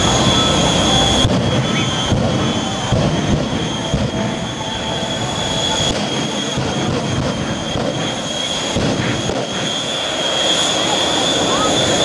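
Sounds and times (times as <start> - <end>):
high steady whine: 0.0 - 12.0
jet engines roaring: 0.0 - 12.0.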